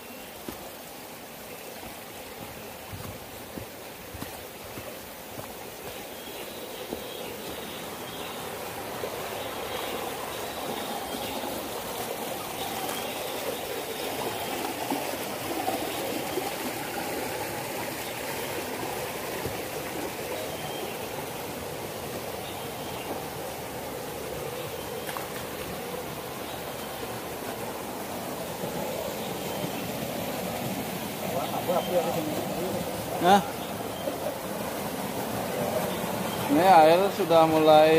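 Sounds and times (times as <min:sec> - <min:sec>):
stream water rushing over rocks: 0:00.0 - 0:37.9.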